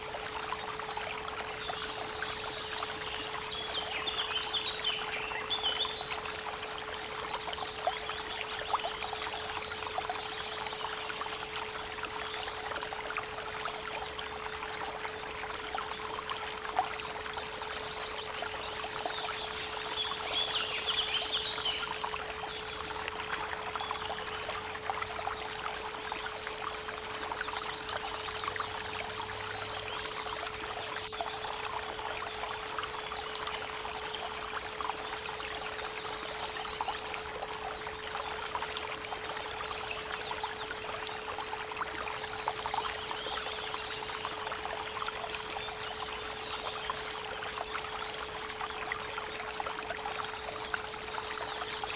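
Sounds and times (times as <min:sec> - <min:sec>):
creek water flowing: 0:00.0 - 0:51.9.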